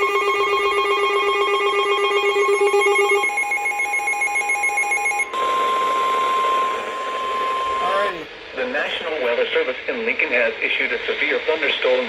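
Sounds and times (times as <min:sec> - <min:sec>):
weather radio alert tones: 0:00.0 - 0:11.8.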